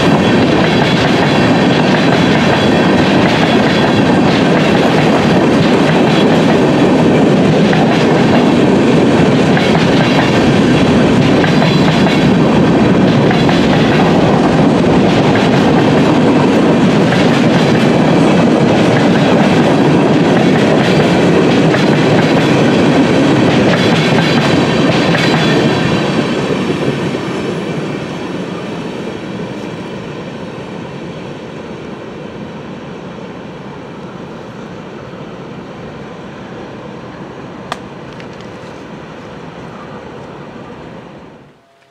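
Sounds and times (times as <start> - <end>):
freight train rumbling past: 0.0 - 41.8.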